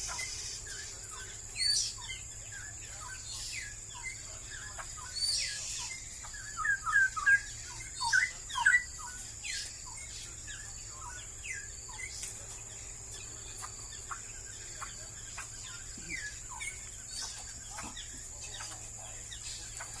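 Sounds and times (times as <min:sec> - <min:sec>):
bird singing warbled notes: 0:00.0 - 0:20.0
faint bird chirps: 0:00.0 - 0:20.0.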